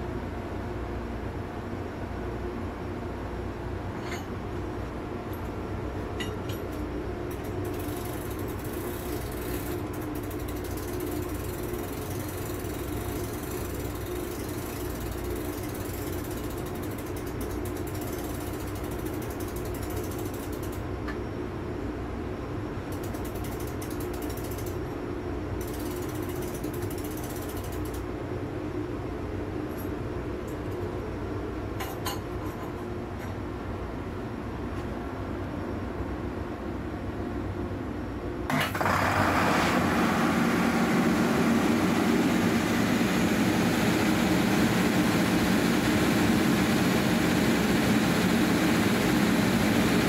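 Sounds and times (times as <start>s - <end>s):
steady machinery hum: 0.0s - 50.0s.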